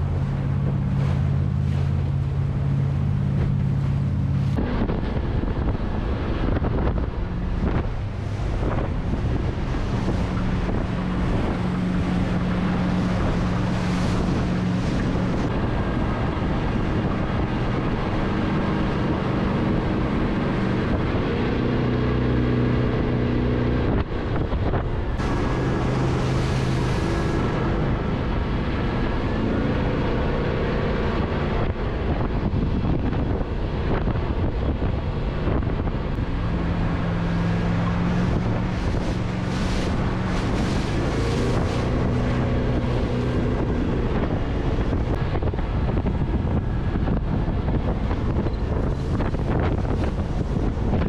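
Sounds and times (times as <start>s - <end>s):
motorboat engine running: 0.0s - 51.0s
water rushing past hull: 0.0s - 51.0s
wind buffeting microphone: 0.0s - 51.0s.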